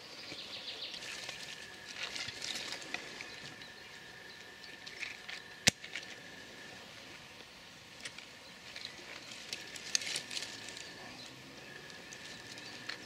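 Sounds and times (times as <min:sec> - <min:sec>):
crackling: 0:00.9 - 0:13.0.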